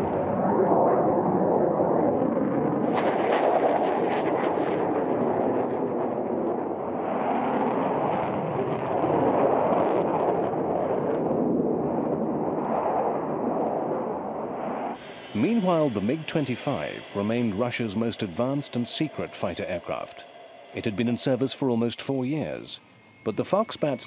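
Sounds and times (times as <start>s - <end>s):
jet fighter engine rumble: 0.0s - 24.0s.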